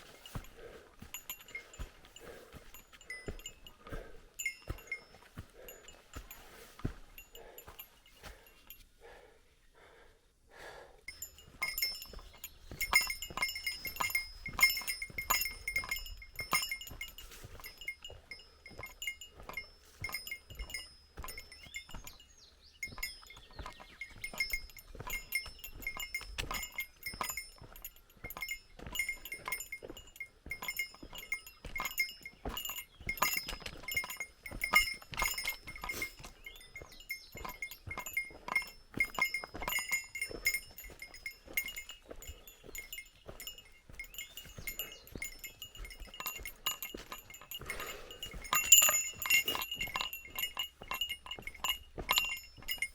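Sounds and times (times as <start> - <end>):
small bell jingling: 0.0 - 8.9, 11.1 - 52.9
footsteps on a trail: 0.0 - 52.9.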